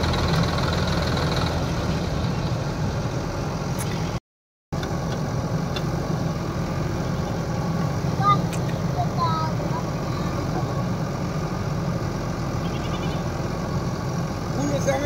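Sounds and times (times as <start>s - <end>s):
diesel engines running: 0.0s - 4.2s, 4.8s - 15.0s.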